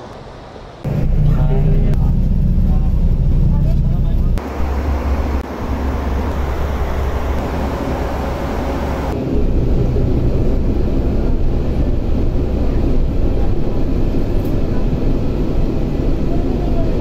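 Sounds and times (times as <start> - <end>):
low vehicle rumble: 0.8 - 17.0.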